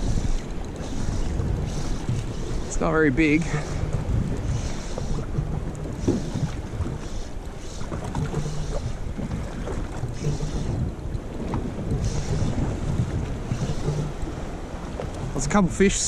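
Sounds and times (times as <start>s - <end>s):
choppy sea water and small waves: 0.0s - 16.0s
wind buffeting microphone: 0.0s - 16.0s.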